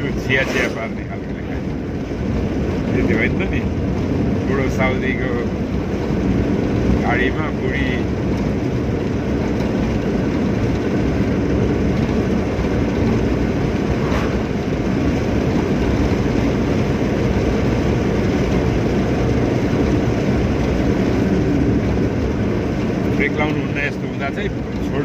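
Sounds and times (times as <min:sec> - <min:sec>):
car engine rumble: 0:00.0 - 0:25.0
road noise: 0:00.0 - 0:25.0.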